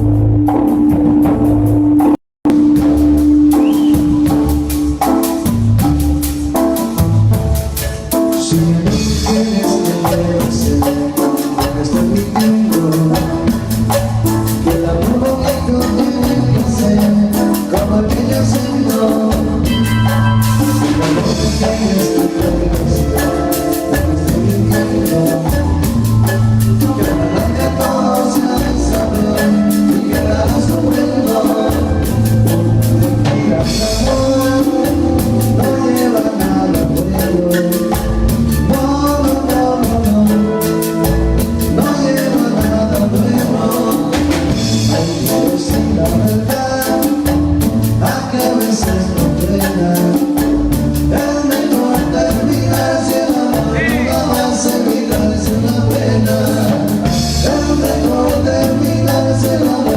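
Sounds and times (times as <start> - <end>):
bass: 0.0 - 59.9
drum kit beat: 0.0 - 59.9
live band playing cumbia: 0.0 - 59.9.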